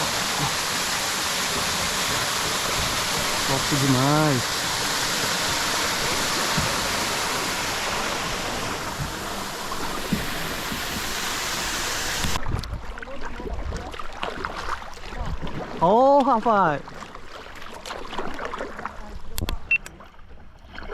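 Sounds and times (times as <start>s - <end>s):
water rushing around kayak: 0.0s - 20.9s
water splashes: 0.0s - 20.9s.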